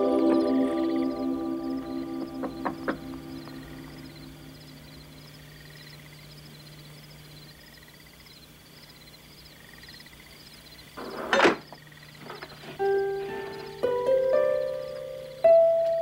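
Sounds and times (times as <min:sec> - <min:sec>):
crickets chirping: 0:00.0 - 0:16.0
low steady hum: 0:00.0 - 0:16.0.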